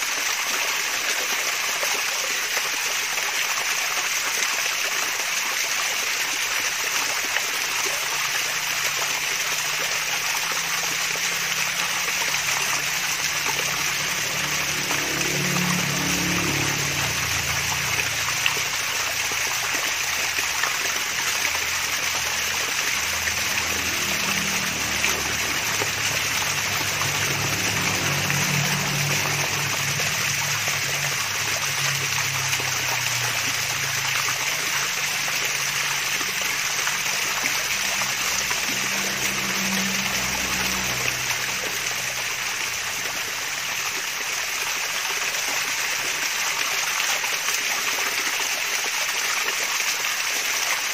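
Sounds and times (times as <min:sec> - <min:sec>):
deep water gurgle: 0:00.0 - 0:50.9
waterfall splashing and trickling: 0:00.0 - 0:50.9.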